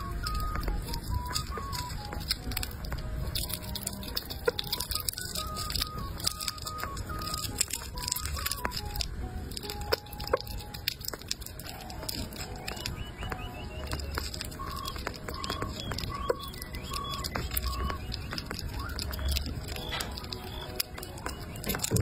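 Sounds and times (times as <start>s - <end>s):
animal chewing wet crunches: 0.0s - 22.0s
soft background music: 0.0s - 22.0s.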